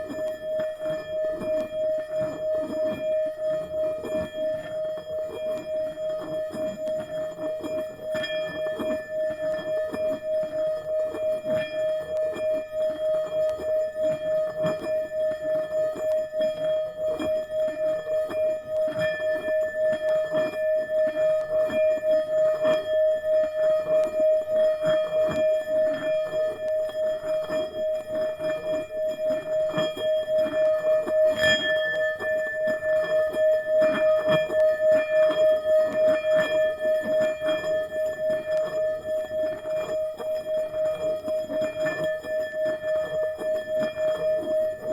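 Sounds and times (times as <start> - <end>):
singing bowl ringing: 0.0 - 44.9.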